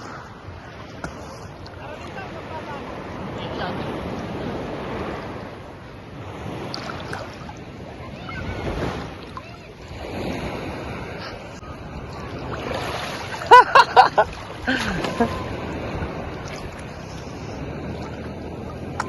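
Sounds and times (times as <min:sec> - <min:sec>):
waves breaking and washing in: 0:00.0 - 0:19.0.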